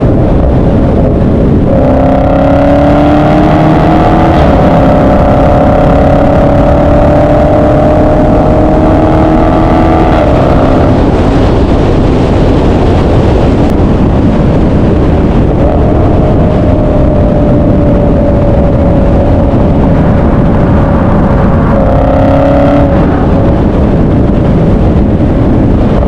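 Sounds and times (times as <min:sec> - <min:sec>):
car engines rumbling: 0:00.0 - 0:26.0
rising droning tone: 0:00.0 - 0:26.0.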